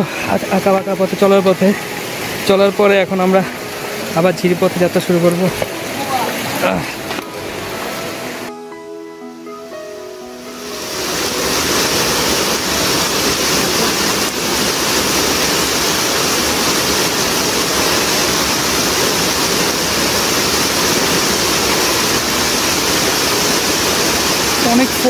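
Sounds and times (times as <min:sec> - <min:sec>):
rushing hill stream water: 0:00.0 - 0:08.5, 0:09.3 - 0:25.0.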